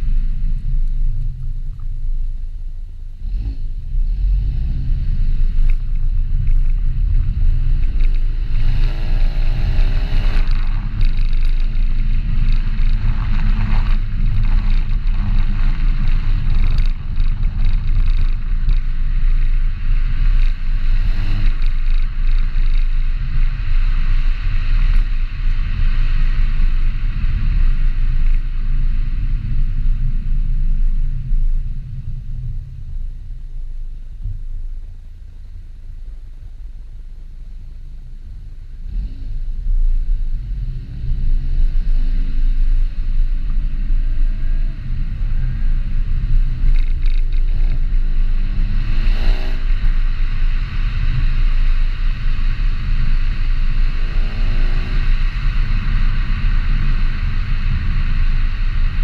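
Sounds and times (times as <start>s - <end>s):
car engine and exhaust accelerating: 0.0s - 59.0s.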